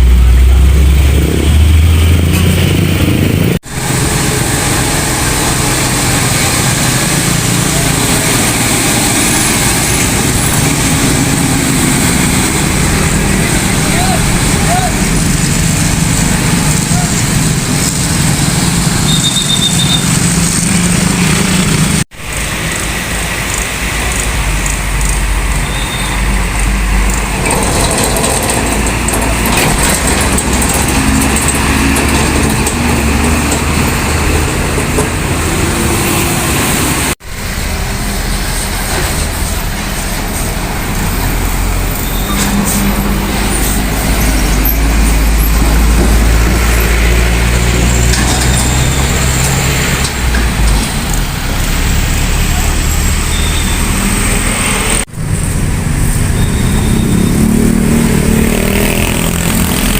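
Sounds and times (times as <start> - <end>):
heavy road traffic rumble: 0.0 - 59.9.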